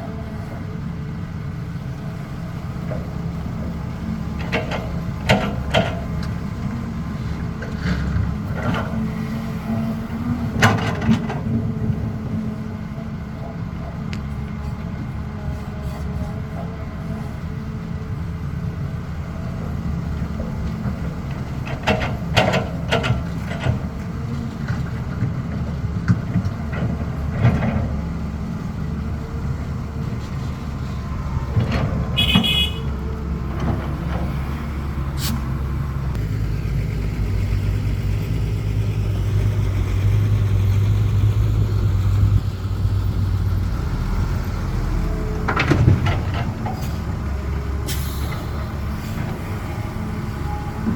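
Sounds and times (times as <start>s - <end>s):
excavator diesel engine: 0.0s - 50.9s.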